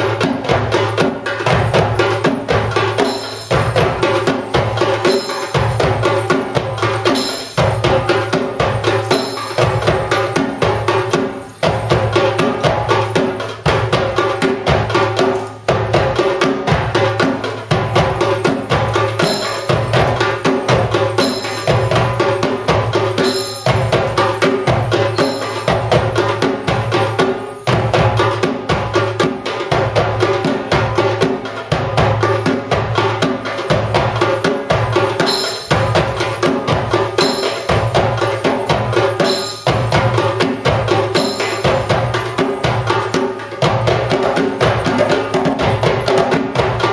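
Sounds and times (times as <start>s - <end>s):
hand drums playing: 0.0s - 46.9s.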